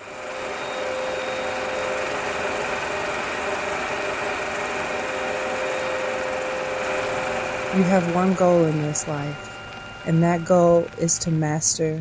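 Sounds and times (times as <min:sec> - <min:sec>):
film projector whirring: 0:00.0 - 0:12.0.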